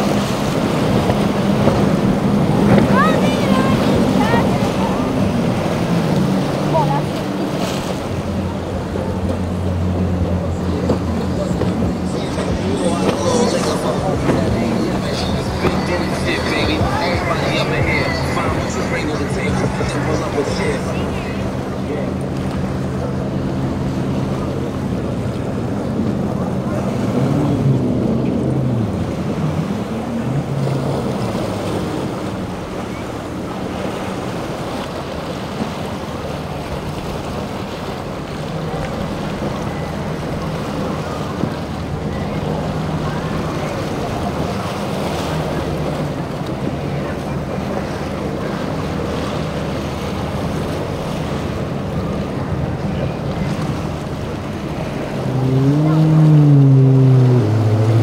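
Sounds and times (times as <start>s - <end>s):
motorboat engines running: 0.0s - 58.0s
waves washing: 0.0s - 58.0s.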